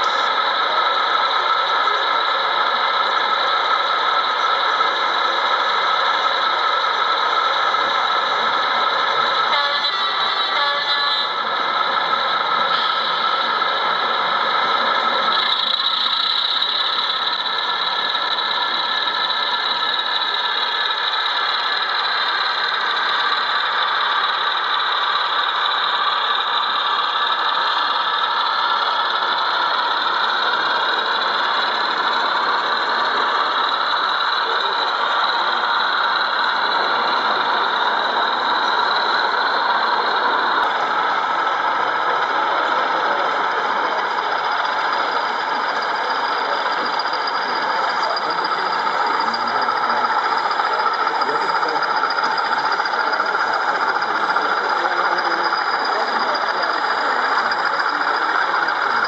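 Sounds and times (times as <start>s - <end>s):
model locomotive hum with whine: 0.0s - 59.0s.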